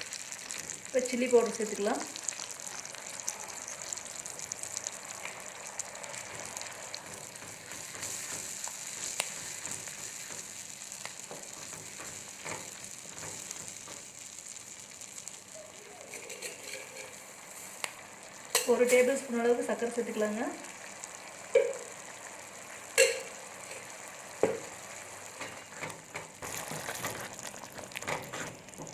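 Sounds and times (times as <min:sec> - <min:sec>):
sauce sizzling in a pan: 0:00.0 - 0:28.9.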